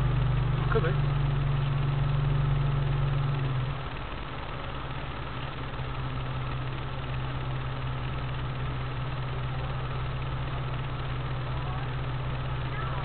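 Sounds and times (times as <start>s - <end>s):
engine idling inside cabin: 0.0s - 13.0s.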